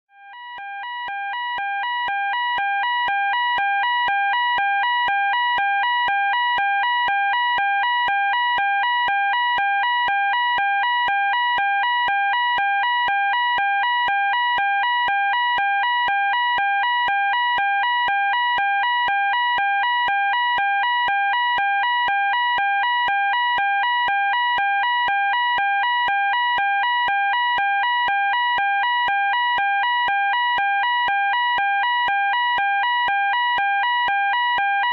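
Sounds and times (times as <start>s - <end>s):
fire alarm two-tone warble: 0.1s - 34.9s.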